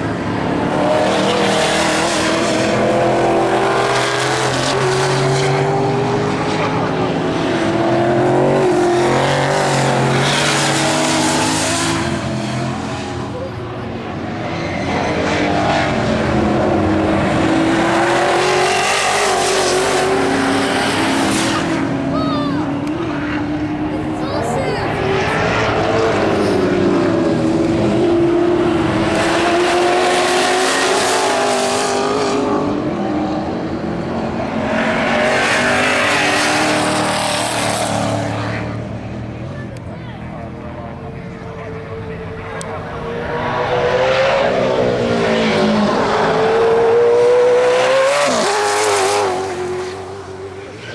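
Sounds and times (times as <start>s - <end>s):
car passing by: 0.0s - 50.9s
race car engines running hard: 0.0s - 50.9s.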